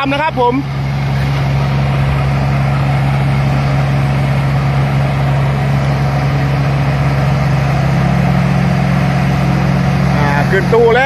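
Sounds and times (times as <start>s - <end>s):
combine harvester engine humming: 0.0s - 11.0s.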